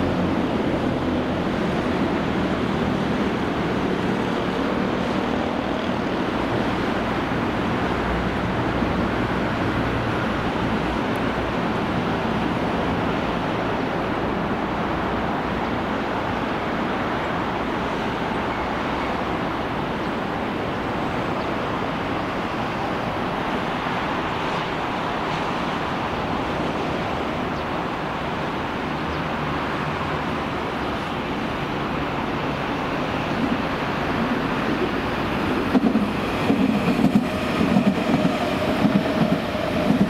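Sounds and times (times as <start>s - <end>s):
electric train rumbling past: 0.0s - 40.0s.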